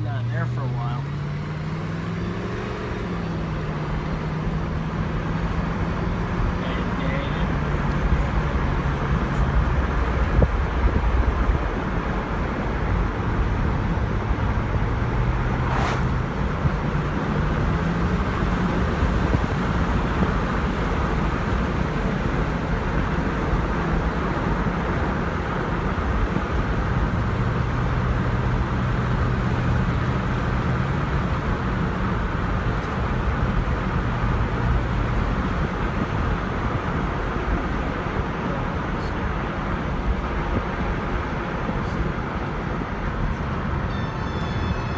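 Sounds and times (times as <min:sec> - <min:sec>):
car road noise: 0:00.0 - 0:44.9.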